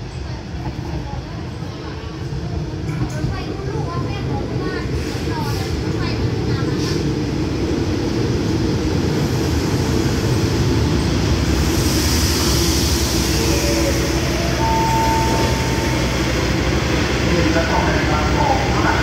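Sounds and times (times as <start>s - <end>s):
wheels on rail: 1.8s - 19.0s.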